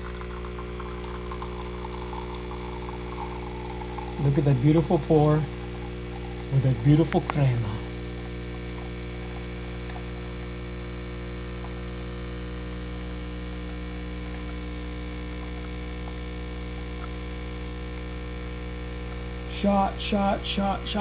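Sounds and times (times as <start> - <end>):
espresso machine pump humming: 0.0 - 21.0.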